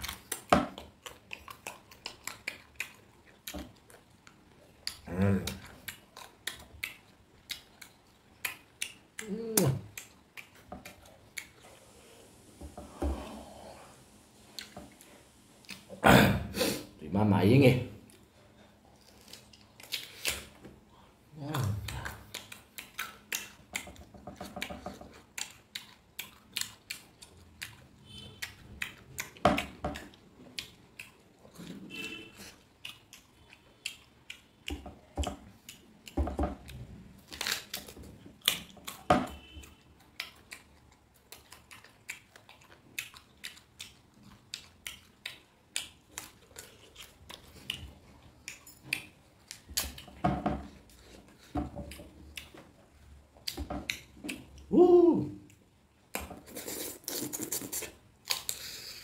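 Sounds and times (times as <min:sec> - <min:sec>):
close-up chewing and mouth smacks: 0:00.0 - 0:12.2, 0:14.4 - 0:16.0, 0:18.0 - 0:54.7, 0:55.4 - 0:59.0.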